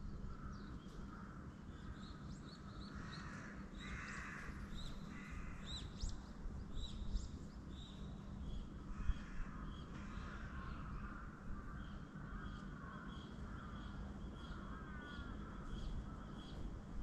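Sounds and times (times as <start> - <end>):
soft wavering bird calls: 0.0 - 16.7.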